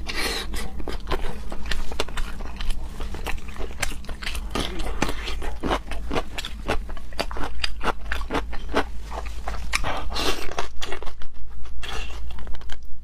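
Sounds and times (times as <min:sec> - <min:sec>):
crunchy bites and chewing: 0:00.0 - 0:12.9.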